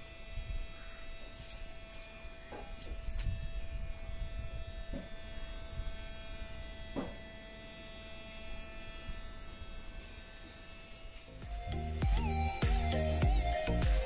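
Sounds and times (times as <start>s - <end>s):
electrical buzz and hum: 0.0s - 14.0s.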